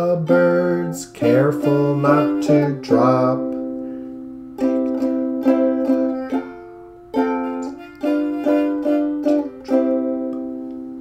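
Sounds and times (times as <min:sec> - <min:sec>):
strummed acoustic string chords: 0:00.0 - 0:11.0.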